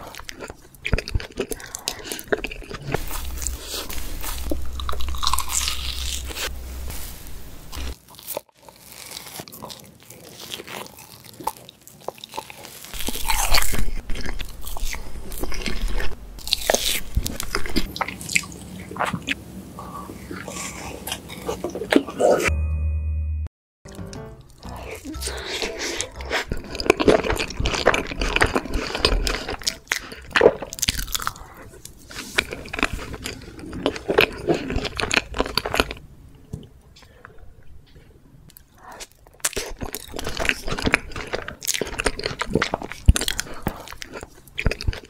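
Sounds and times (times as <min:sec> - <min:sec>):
wet chewing: 0:00.0 - 0:06.6, 0:07.7 - 0:22.4, 0:24.0 - 0:36.0, 0:38.5 - 0:45.0.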